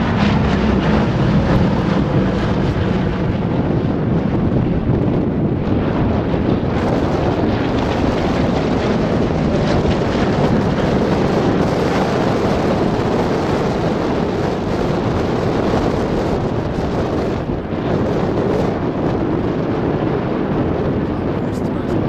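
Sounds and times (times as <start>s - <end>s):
propeller planes droning overhead: 0.0s - 22.0s
wind on microphone: 0.0s - 22.0s.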